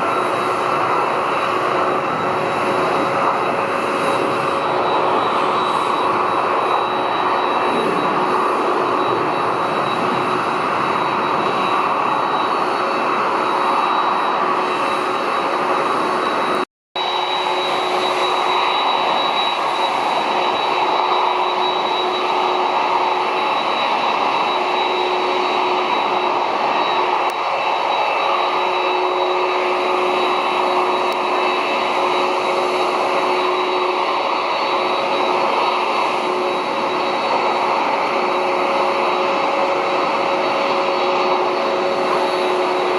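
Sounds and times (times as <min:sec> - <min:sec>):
jet engines whining: 0:00.0 - 0:42.9.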